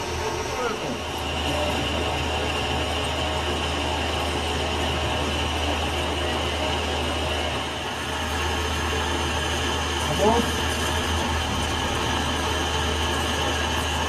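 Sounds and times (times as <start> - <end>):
metal lathe running: 0.0 - 14.0.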